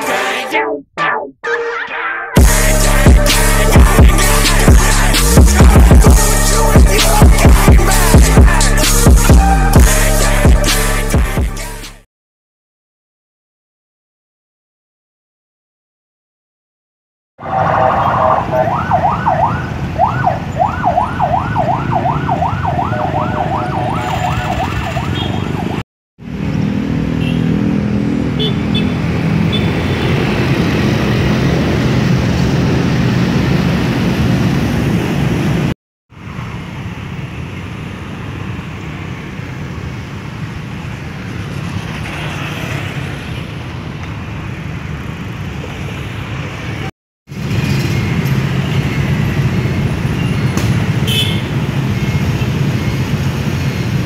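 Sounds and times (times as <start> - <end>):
road traffic rumble: 2.4 - 11.7, 17.4 - 54.0.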